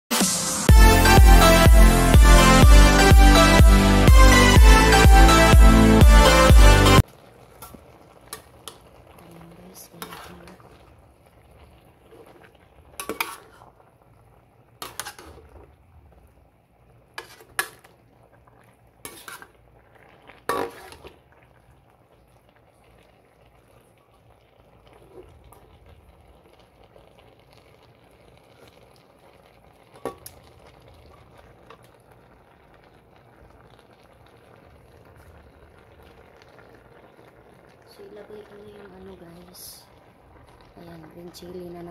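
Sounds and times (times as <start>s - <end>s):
food simmering: 7.0s - 41.9s.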